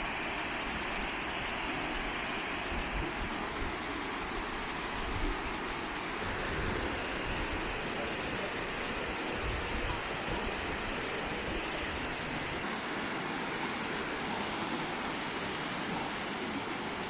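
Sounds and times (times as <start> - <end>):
waterfall rushing over rock: 0.0 - 17.0.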